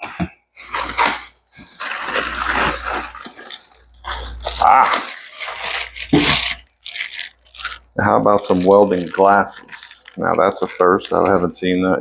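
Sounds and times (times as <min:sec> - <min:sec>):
packaging rustling: 0:00.0 - 0:11.8
small items clinking: 0:00.0 - 0:11.8.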